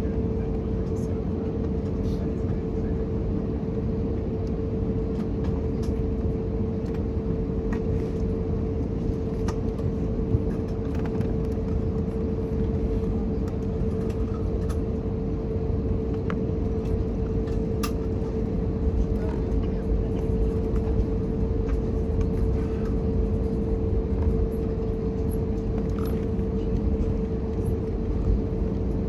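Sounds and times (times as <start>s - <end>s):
airplane cabin engine rumble: 0.0s - 29.0s.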